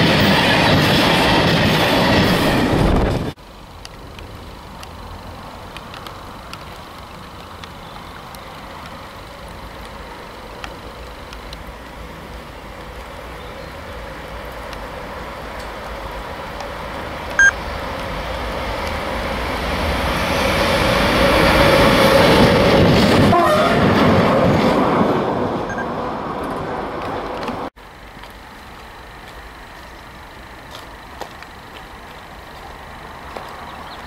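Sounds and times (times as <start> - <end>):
electric locomotive passing: 0.0 - 34.0
faint outdoor ambience: 2.9 - 22.9, 24.8 - 34.0.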